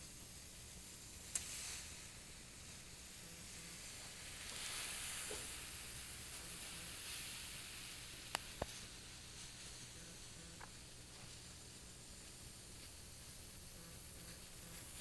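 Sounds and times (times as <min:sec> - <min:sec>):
alcohol stove hissing: 0:00.0 - 0:15.0.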